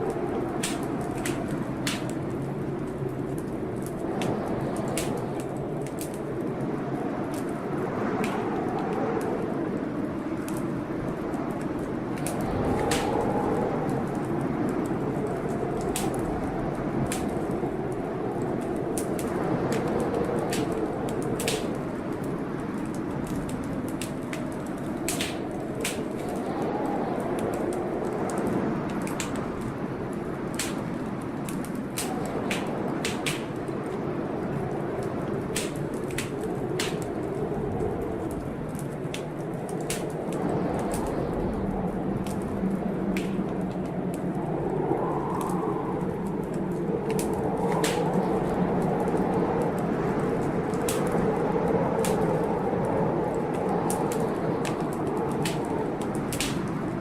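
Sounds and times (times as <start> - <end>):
rain: 0.0 - 57.0
storm wind: 0.0 - 57.0
wood fire crackling: 0.0 - 57.0.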